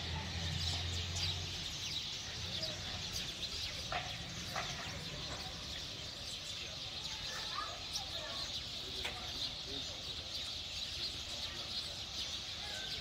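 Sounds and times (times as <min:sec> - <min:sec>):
flock of small birds chirping: 0:00.0 - 0:13.0.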